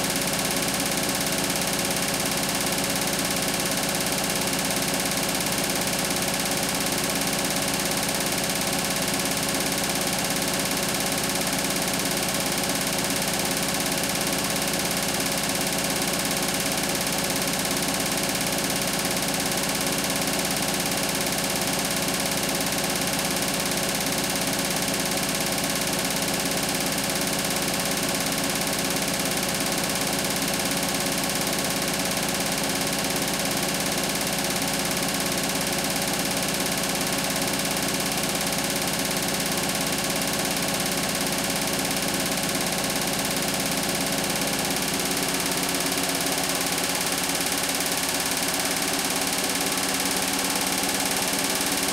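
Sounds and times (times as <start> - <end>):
washing machine humming: 0.0 - 51.9.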